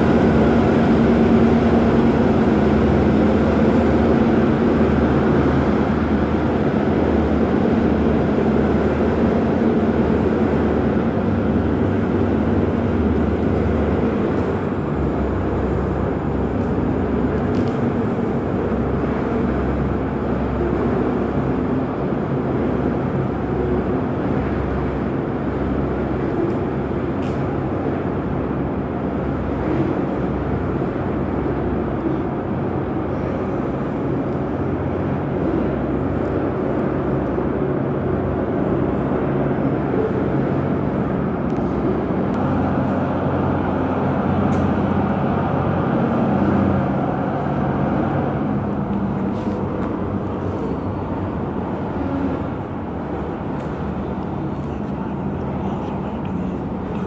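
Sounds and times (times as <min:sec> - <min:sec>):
low droning engine hum: 0:00.0 - 0:57.0
train rumbling: 0:00.0 - 0:57.0.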